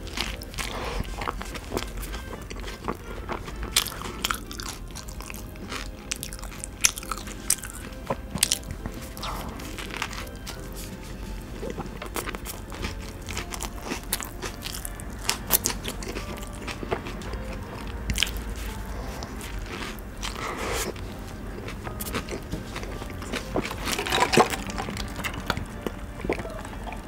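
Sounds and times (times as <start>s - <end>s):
chewing and biting burger: 0.0s - 27.0s.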